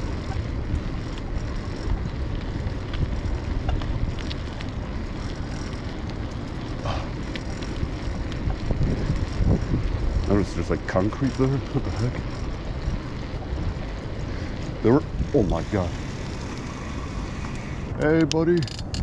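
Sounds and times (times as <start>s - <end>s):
bicycle ticks and rattles: 0.0s - 19.0s
wind rushing over microphone: 0.0s - 19.0s.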